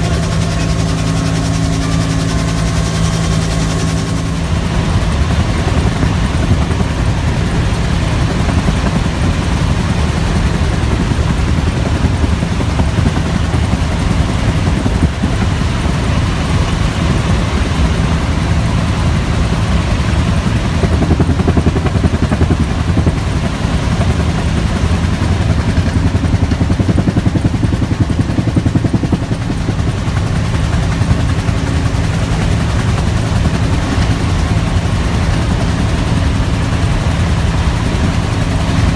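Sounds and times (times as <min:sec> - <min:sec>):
helicopter rotor beat: 0:00.0 - 0:38.9.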